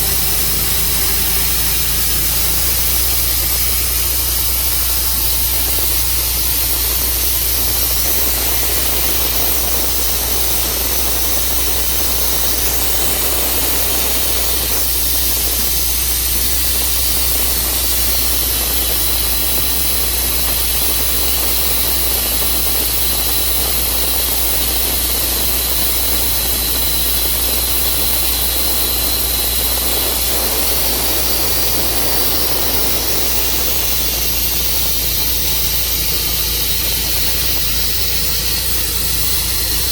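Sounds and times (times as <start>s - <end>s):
sawmill sawing a log: 0.0s - 39.9s.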